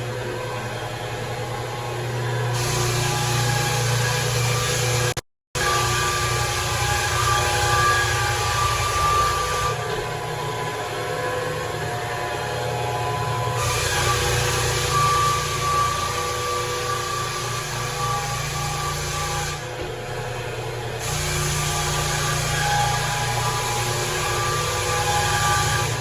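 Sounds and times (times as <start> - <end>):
floor sander motor hum: 0.0 - 26.0.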